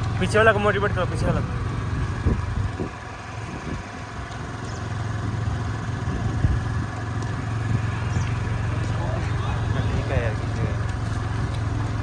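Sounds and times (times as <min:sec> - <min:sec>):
low rumble: 0:01.3 - 0:12.0.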